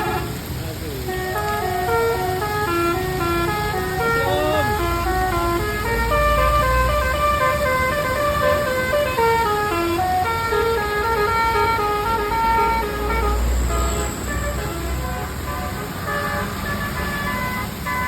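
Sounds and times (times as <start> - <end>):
musical air horn melody: 0.0 - 0.4, 1.1 - 18.0.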